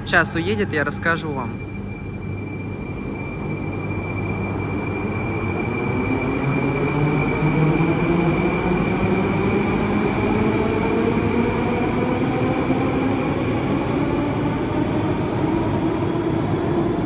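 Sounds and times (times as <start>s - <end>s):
traction motor whine rising in pitch: 0.0s - 17.0s.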